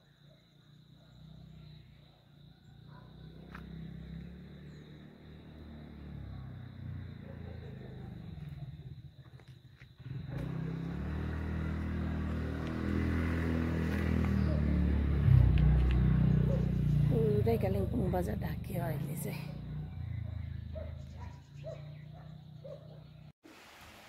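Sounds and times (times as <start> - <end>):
vehicle engine running: 2.9 - 23.3.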